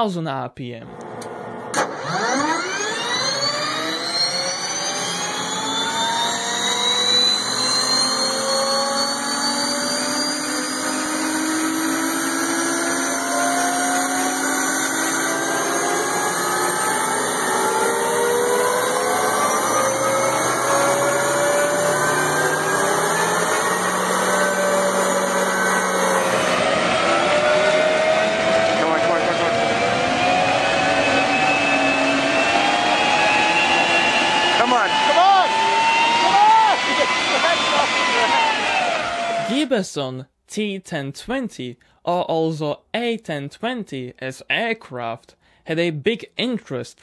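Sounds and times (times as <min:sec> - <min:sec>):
gas turbine whine: 0:00.8 - 0:39.7.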